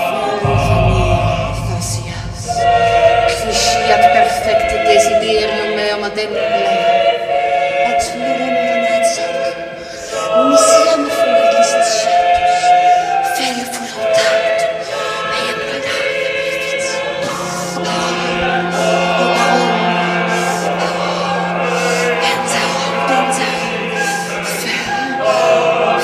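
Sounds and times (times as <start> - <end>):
choir singing unaccompanied: 0.0 - 26.0.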